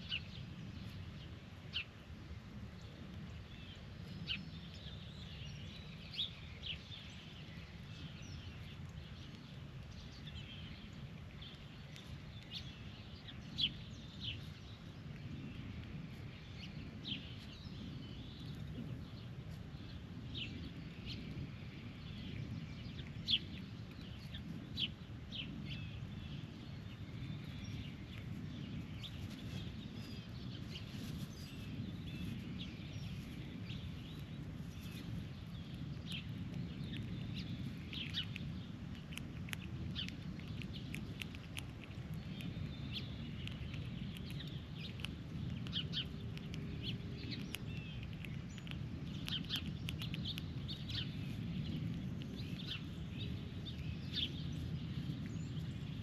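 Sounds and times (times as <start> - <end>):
low rumble: 2.6 - 56.0
birds chirping: 2.8 - 56.0.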